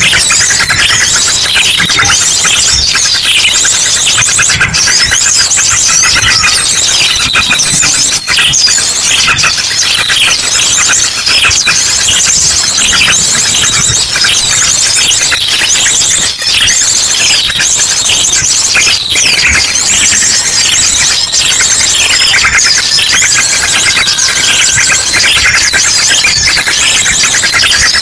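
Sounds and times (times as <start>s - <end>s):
rapid rattling bird call: 0.0s - 28.0s
small birds chattering: 0.0s - 28.0s.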